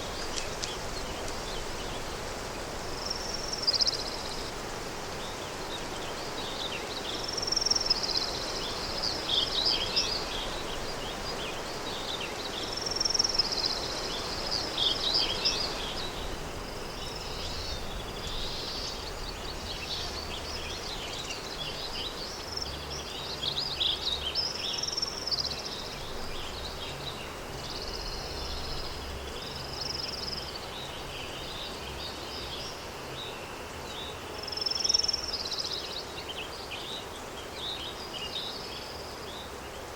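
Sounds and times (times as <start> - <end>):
songbirds chirping: 0.0 - 39.9
wind rustling: 0.0 - 39.9.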